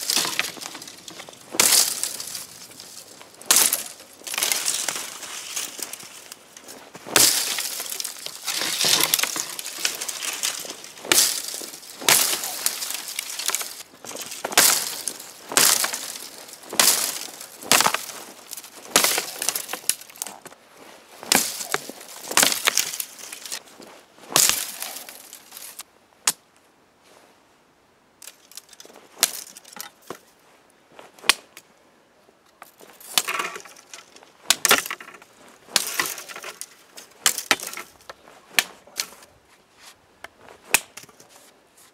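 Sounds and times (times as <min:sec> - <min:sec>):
blade chopping shrub stems: 0:00.0 - 0:20.6, 0:21.2 - 0:23.6, 0:24.3 - 0:26.4, 0:28.2 - 0:30.3, 0:32.6 - 0:39.3, 0:40.2 - 0:41.4.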